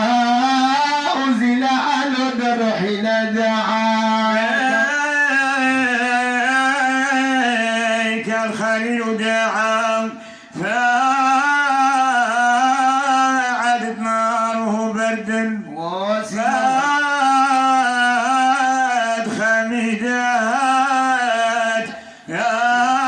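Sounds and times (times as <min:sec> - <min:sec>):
man singing devotional song: 0:00.0 - 0:23.0.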